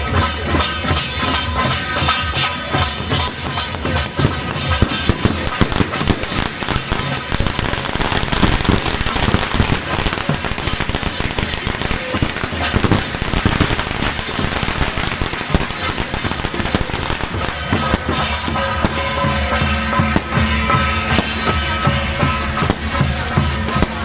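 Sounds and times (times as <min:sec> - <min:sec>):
firecrackers crackling: 0:00.0 - 0:24.0
procession music: 0:00.0 - 0:24.0.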